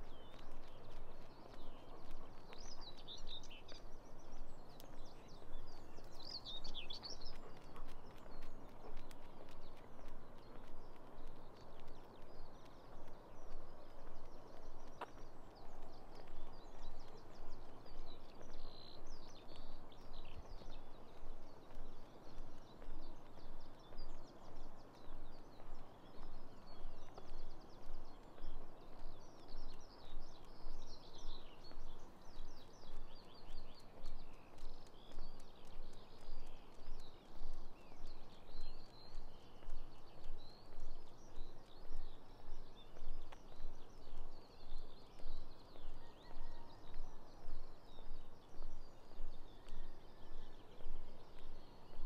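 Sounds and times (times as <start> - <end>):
songbirds singing and chirping: 0.0 - 52.0.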